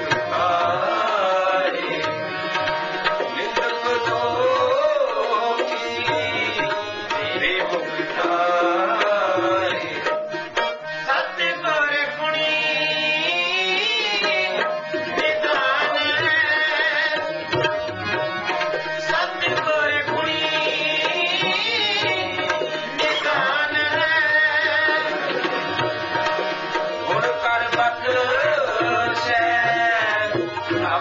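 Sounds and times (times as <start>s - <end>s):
man singing: 0.0s - 18.3s, 19.0s - 26.0s, 26.8s - 31.0s
harmonium drone and melody: 0.0s - 31.0s
tabla drumming: 0.0s - 31.0s.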